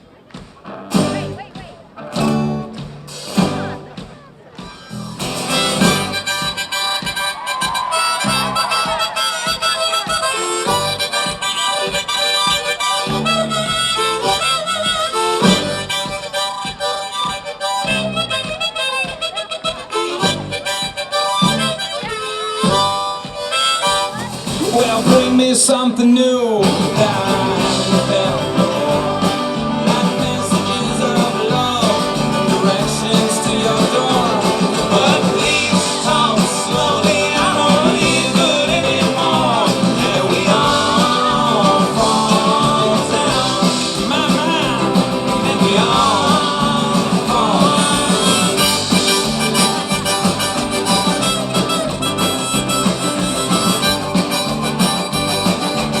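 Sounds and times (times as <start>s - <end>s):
guitar: 0.0s - 56.0s
harmonica melody: 4.6s - 25.5s, 26.6s - 56.0s.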